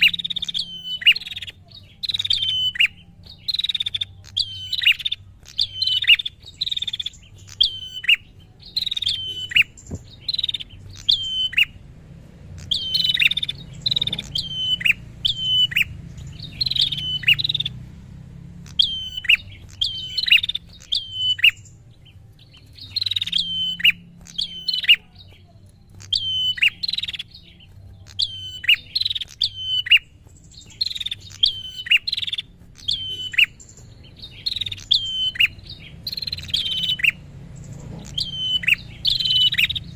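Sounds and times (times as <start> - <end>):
bird chirping descending notes: 0.0 - 39.9.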